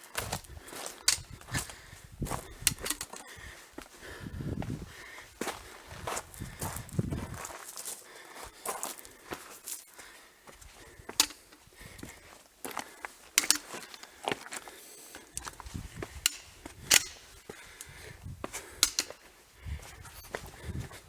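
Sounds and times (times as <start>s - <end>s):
footsteps on stones: 0.0s - 21.0s.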